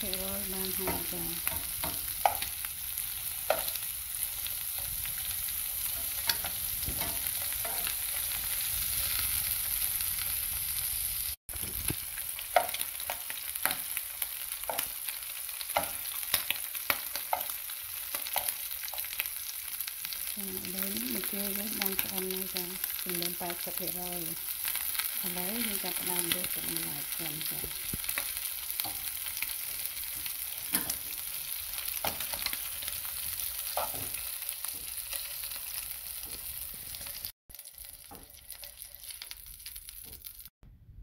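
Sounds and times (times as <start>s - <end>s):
shrimp sizzling in oil: 0.0s - 40.5s.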